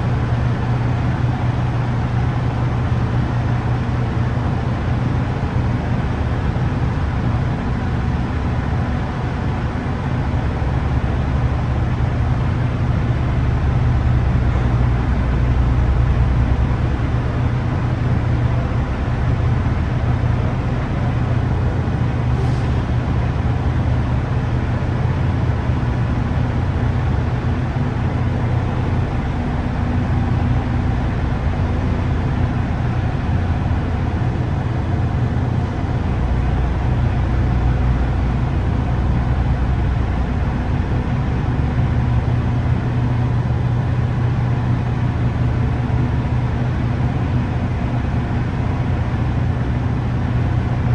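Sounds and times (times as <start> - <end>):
diesel truck engine rumbling: 0.0 - 50.9.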